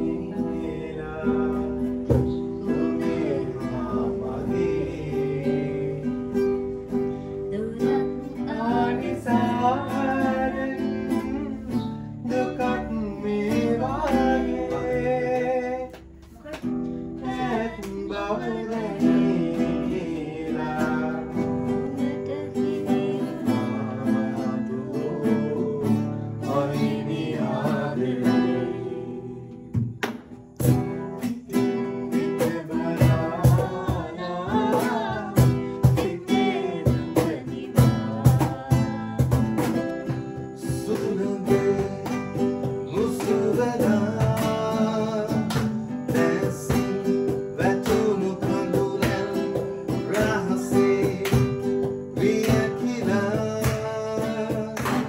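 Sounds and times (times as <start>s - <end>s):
voices singing: 0.0s - 30.0s, 30.6s - 55.0s
acoustic guitar strumming: 0.0s - 55.0s.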